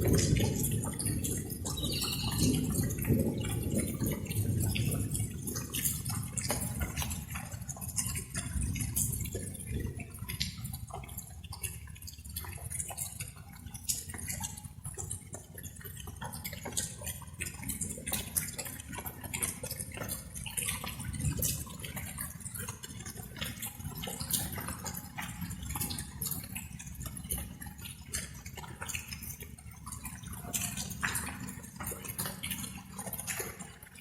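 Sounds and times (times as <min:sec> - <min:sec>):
light rain dripping: 0:00.0 - 0:34.0.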